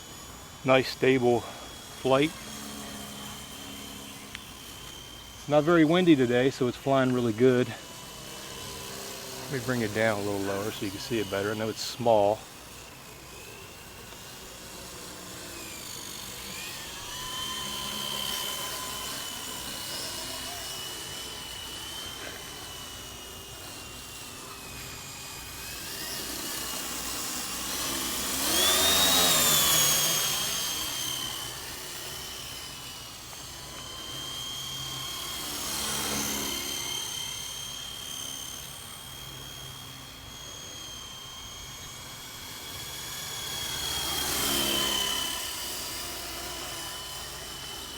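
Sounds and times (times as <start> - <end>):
rc helicopter motor whine: 0.0 - 47.9.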